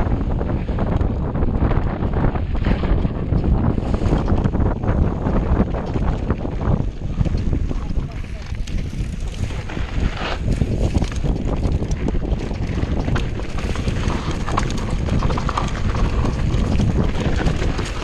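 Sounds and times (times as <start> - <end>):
mountain bike rattling: 0.0 - 18.0
wind buffeting microphone: 0.0 - 18.0.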